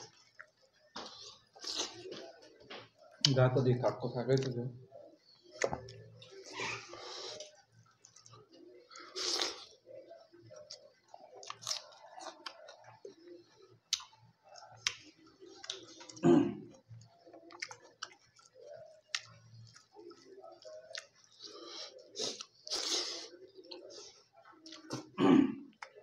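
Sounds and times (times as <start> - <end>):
person chewing food: 0.0 - 3.2, 5.5 - 9.8, 10.5 - 26.0.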